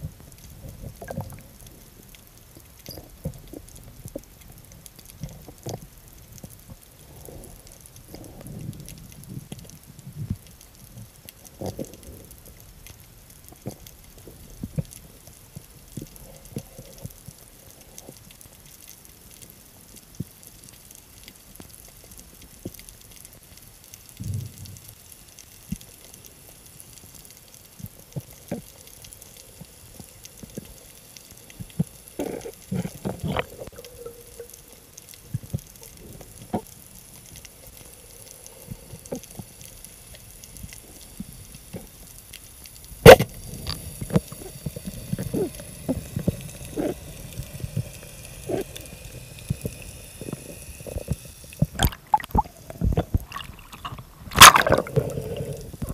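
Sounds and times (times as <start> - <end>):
faint underwater hiss: 0.0 - 55.9.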